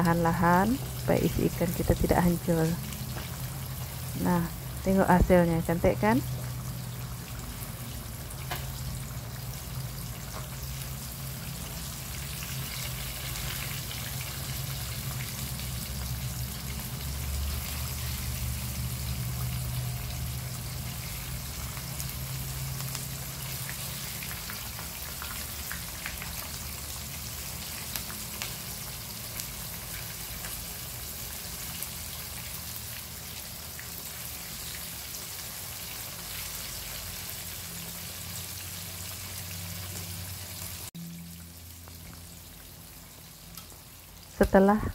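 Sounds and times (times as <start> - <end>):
fish frying in hot oil: 0.0 - 44.8.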